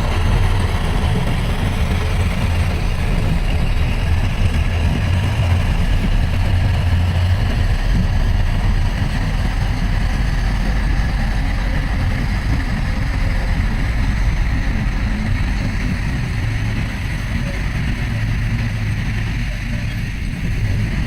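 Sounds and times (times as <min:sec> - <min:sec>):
heavy diesel engine rumbling: 0:00.0 - 0:21.0.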